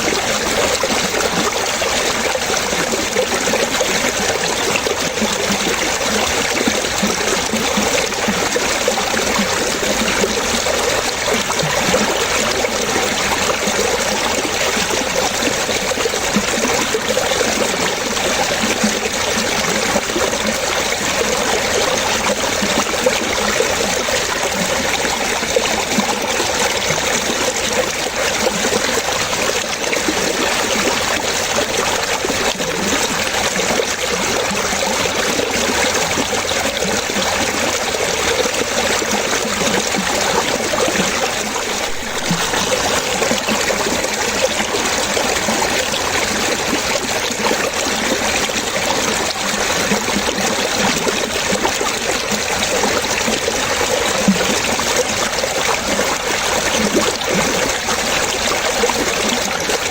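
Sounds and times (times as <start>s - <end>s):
water trickling and splashing: 0.0s - 59.9s.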